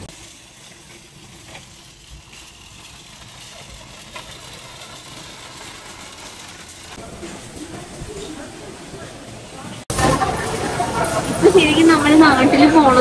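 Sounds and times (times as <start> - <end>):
shopping cart rolling on concrete: 0.0 - 13.0.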